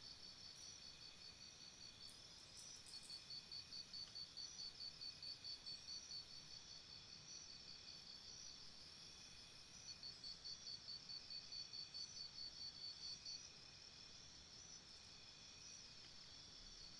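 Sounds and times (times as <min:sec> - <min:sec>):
steady high insect hum: 0:00.0 - 0:16.9.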